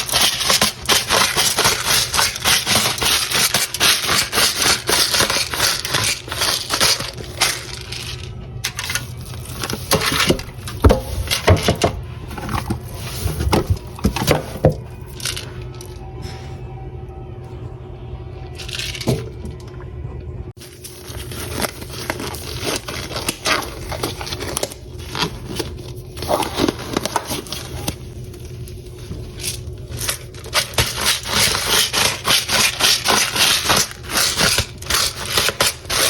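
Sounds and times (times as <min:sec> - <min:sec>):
pepper grinder grinding: 0:00.0 - 0:16.0, 0:20.6 - 0:27.9, 0:29.3 - 0:36.0.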